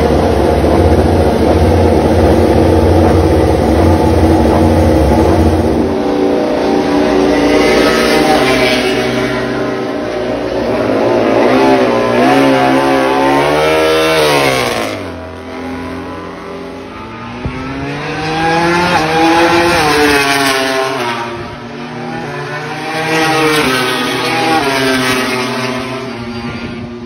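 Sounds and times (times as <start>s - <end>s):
racing motorcycle engines revving: 0.0s - 27.0s.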